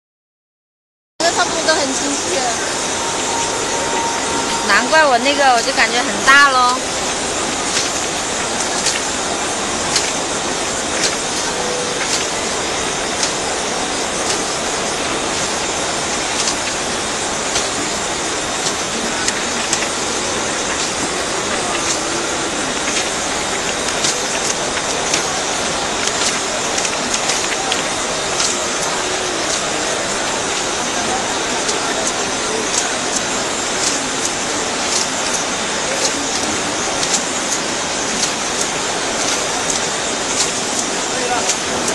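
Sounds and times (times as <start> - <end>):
stitching machine hiss and rumble: 1.2 - 41.9.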